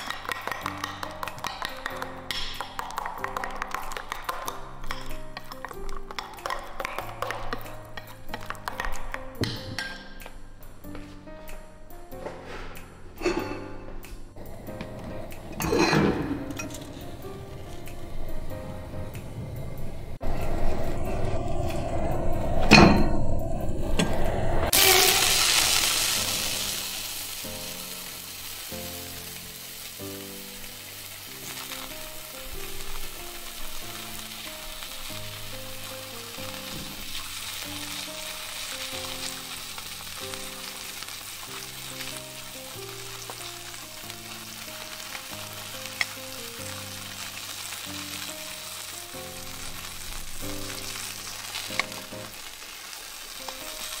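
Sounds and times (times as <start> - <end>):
oil sizzling: 0.0 - 11.3, 14.3 - 20.8, 24.4 - 54.0
soft background music: 0.0 - 23.8, 24.9 - 54.0.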